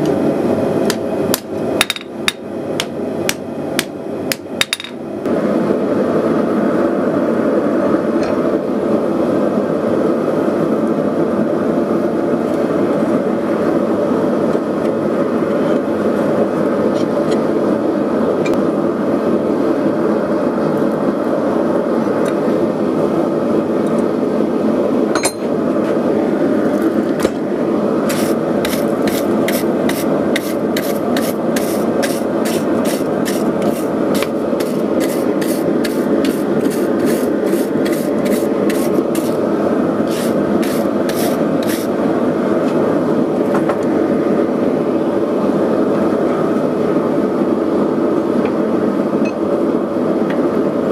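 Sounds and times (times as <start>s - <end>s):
gas burner roaring: 0.0s - 50.9s.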